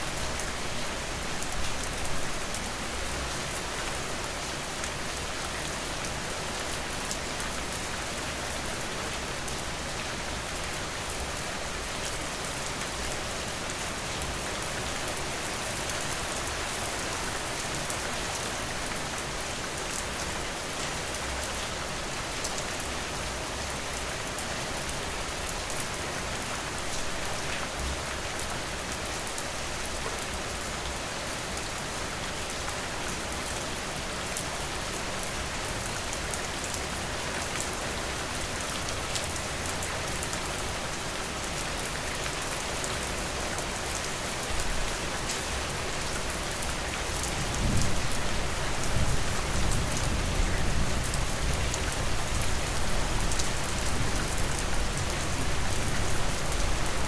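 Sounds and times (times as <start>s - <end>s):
rain falling on a porch: 0.0s - 57.0s.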